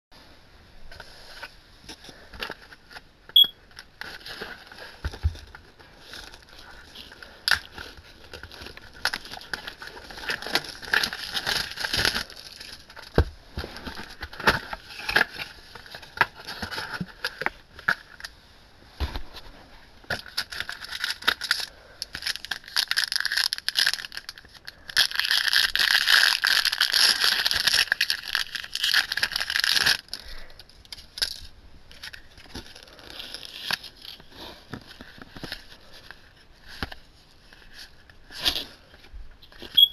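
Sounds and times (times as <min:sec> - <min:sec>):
wrappers crinkling and tearing: 0:03.7 - 0:18.2, 0:20.1 - 0:39.8.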